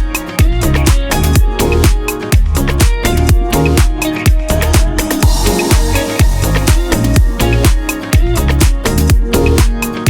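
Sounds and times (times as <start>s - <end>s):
electronic dance music: 0.0s - 10.0s
kick drum beat: 0.0s - 10.0s.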